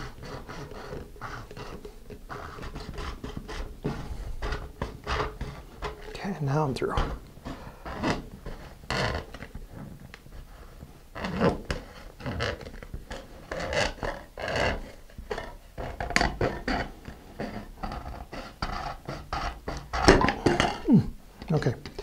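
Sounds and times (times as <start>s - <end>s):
saw scraping through plastic: 0.0s - 6.2s, 7.1s - 20.9s.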